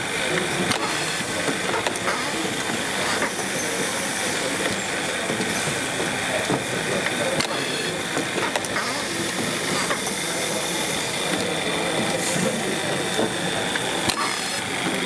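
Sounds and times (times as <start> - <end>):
machinery hiss: 0.0 - 15.0
sharp machine clicks: 0.1 - 6.4, 7.0 - 12.6, 13.6 - 15.0.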